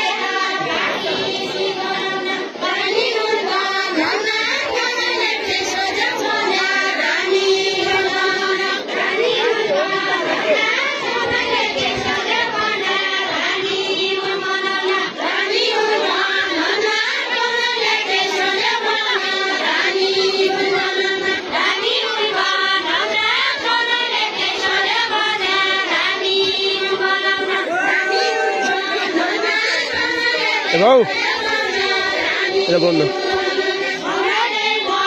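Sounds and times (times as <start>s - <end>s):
group singing unaccompanied: 0.0s - 35.0s.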